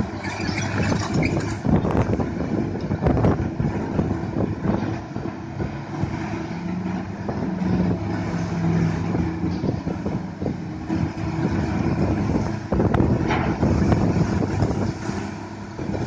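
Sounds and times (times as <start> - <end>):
diesel engine hum: 0.0 - 16.0.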